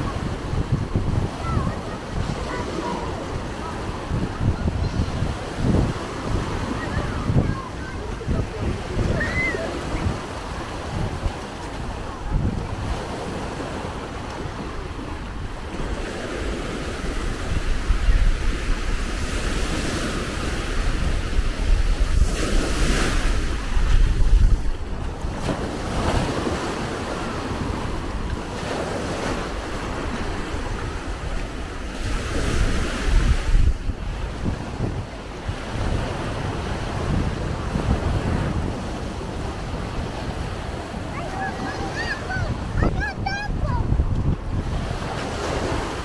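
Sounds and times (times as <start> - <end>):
waves breaking on shore: 0.0 - 46.0
wind rumbling on microphone: 0.0 - 46.0.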